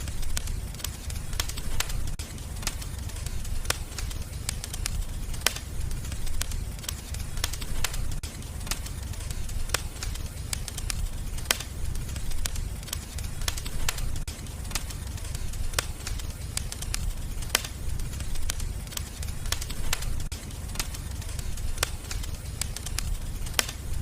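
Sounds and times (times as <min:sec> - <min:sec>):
fire popping and snapping: 0:00.0 - 0:24.0
low rumble of flames: 0:00.0 - 0:24.0.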